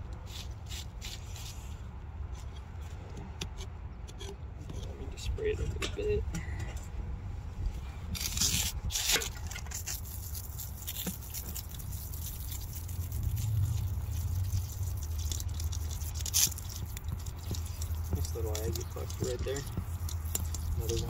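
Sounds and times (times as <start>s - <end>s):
steady low rumble: 1.5s - 21.0s
light scraping and clicking: 2.3s - 6.9s, 8.2s - 21.0s.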